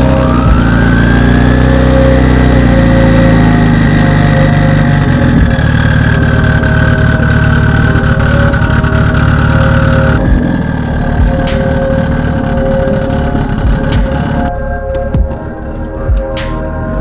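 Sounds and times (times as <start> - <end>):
car engine running: 0.0 - 15.6.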